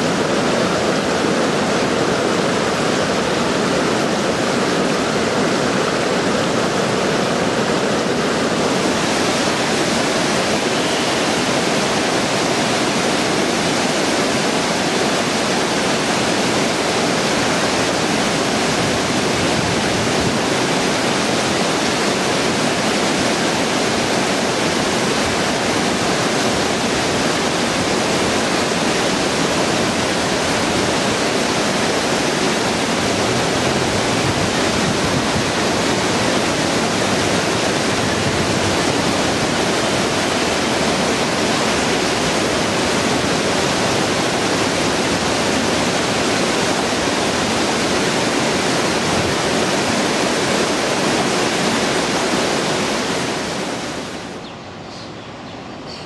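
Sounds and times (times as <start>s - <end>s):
whitewater rushing: 0.0s - 54.5s.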